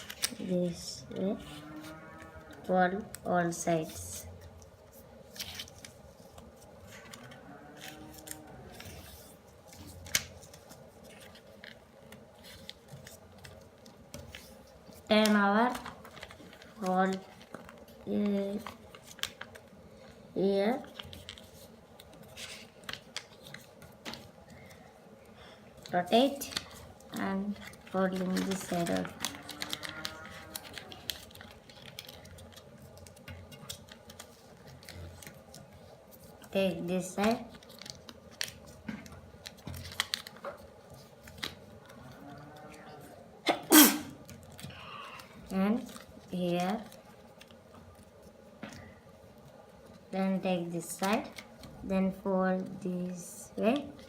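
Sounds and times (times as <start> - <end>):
paper rustling and crackling: 0.0 - 42.7, 44.2 - 54.0.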